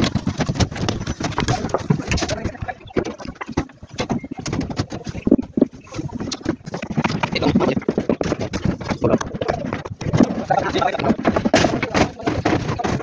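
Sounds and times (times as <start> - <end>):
footsteps on steel rebar: 0.0 - 13.0.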